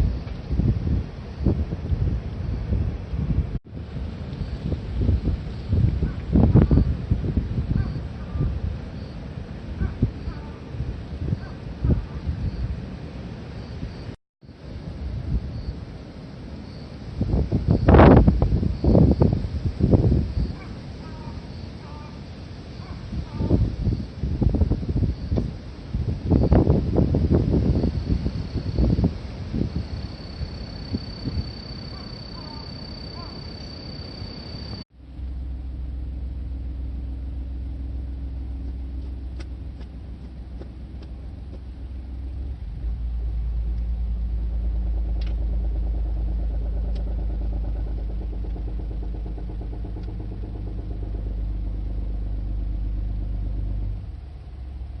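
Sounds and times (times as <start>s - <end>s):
car engine and road rumble: 0.0s - 55.0s
wind-like outdoor noise: 0.0s - 55.0s.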